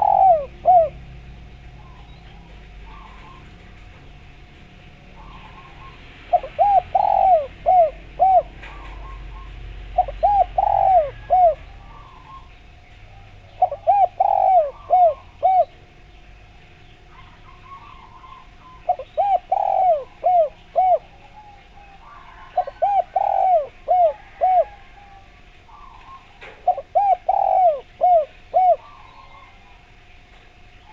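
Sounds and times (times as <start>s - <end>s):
dove cooing: 0.0s - 30.9s.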